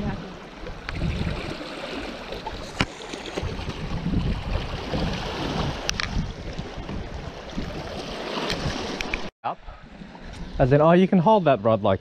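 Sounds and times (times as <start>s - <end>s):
wind on microphone: 0.0s - 1.7s, 2.4s - 10.8s.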